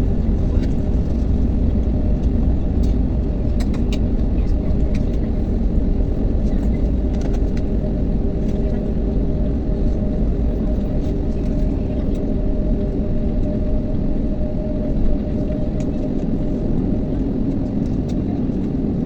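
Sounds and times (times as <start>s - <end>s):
engine and airframe rumble: 0.0s - 19.0s.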